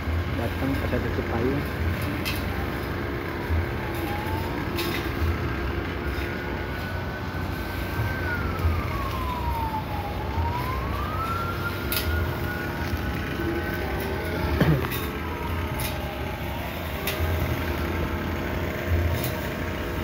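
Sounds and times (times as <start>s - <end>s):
siren wailing: 0.0s - 20.0s.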